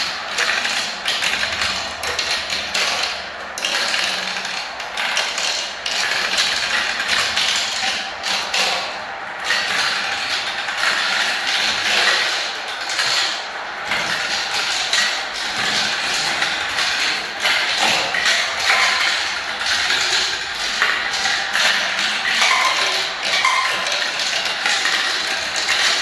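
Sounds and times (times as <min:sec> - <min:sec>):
balls rattling down marble run: 0:00.0 - 0:26.0.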